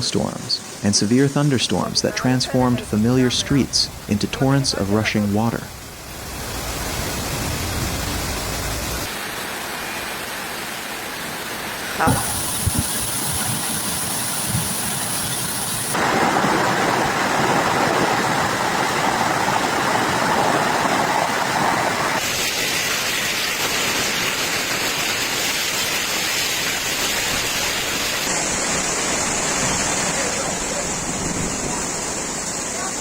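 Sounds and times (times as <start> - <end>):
heavy rain pouring: 0.1 - 33.0.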